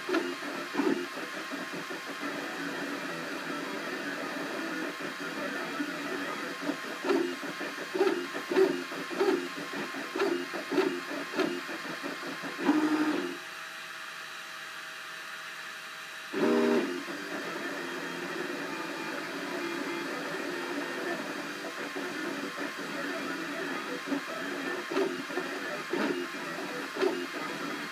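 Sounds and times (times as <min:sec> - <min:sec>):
printer stepper motors whirring: 0:00.0 - 0:14.4, 0:15.0 - 0:27.9.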